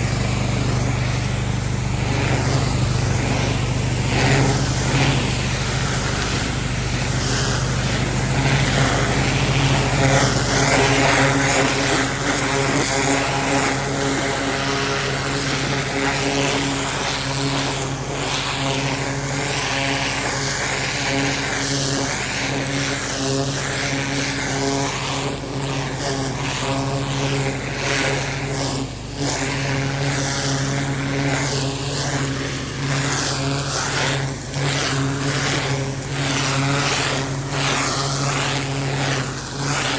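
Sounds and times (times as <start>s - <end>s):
high-pressure water jet hissing: 0.0s - 39.9s
pressure washer motor hum: 0.0s - 39.9s.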